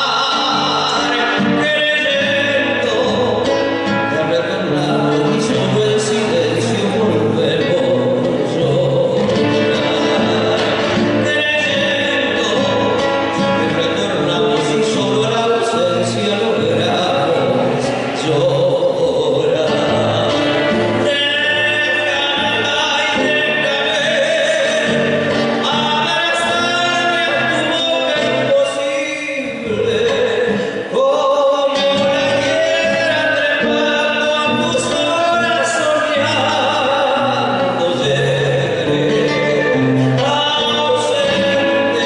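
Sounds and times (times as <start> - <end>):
folk song singing: 0.0 - 42.0.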